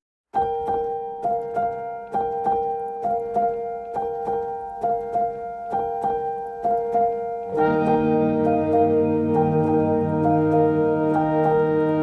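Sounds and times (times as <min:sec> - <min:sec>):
plucked notes repeating: 0:00.4 - 0:12.0
steady held tone: 0:00.4 - 0:12.0.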